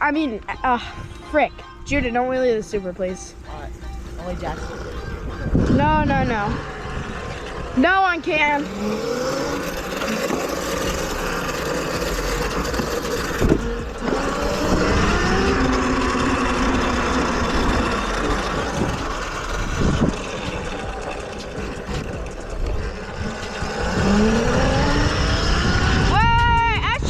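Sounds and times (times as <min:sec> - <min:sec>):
electric motor whine: 0:03.4 - 0:26.1
wind on microphone: 0:04.3 - 0:27.0.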